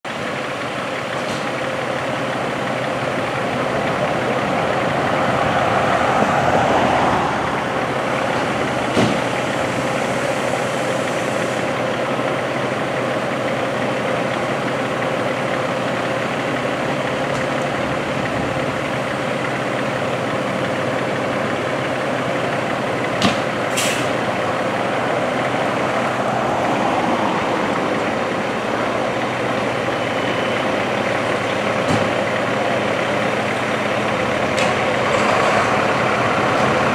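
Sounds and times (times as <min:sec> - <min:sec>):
diesel engines idling: 0:00.0 - 0:36.9.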